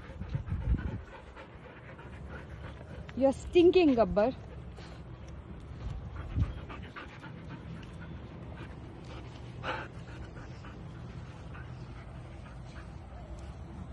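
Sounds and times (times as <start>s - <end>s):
dog panting: 0.0s - 13.9s.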